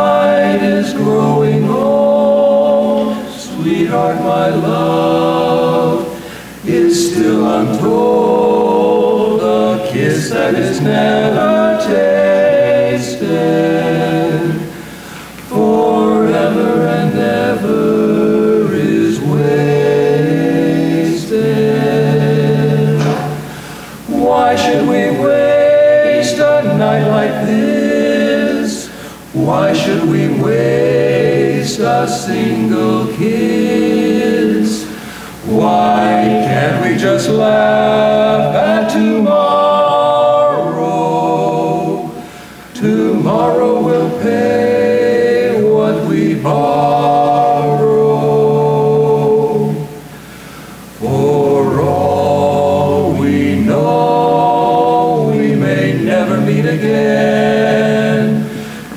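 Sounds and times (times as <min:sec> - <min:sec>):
men singing in close harmony: 0:00.0 - 0:50.1, 0:50.8 - 0:58.9.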